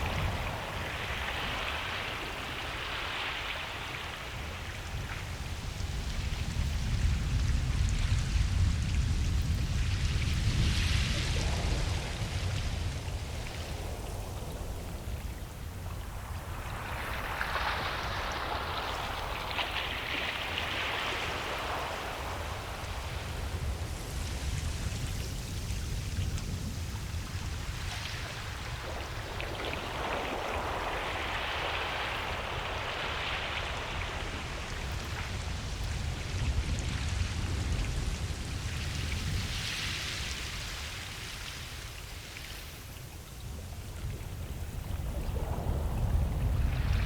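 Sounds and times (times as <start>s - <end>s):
ocean waves breaking on beach: 0.0s - 47.0s.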